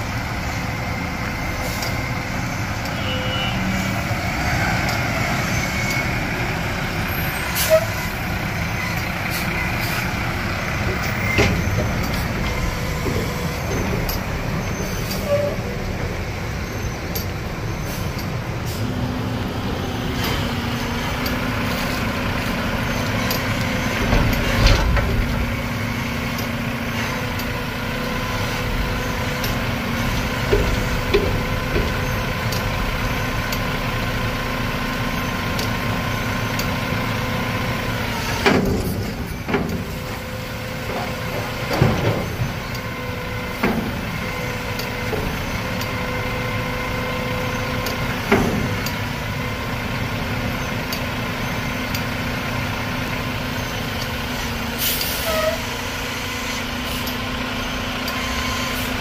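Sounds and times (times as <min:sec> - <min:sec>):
garbage truck diesel engine: 0:00.0 - 0:59.0.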